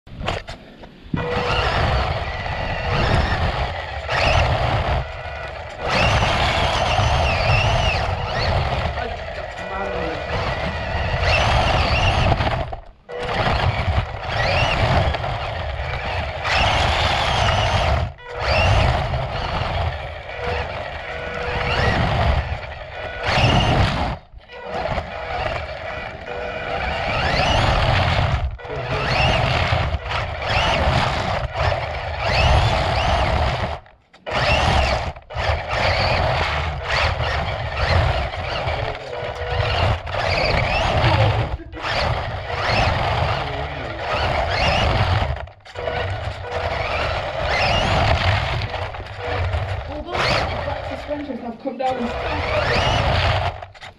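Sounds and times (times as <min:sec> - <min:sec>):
tyres rumbling on concrete: 0:00.1 - 0:53.9
rc car motor whining: 0:01.1 - 0:53.9.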